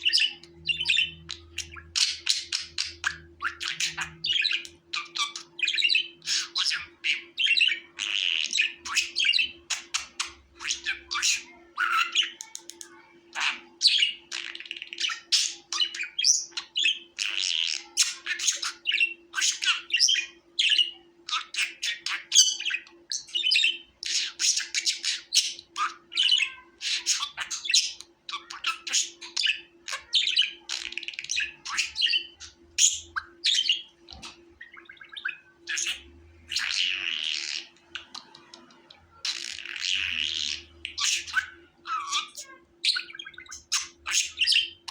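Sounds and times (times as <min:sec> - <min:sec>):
budgies chirping and squawking: 0:00.0 - 0:44.9.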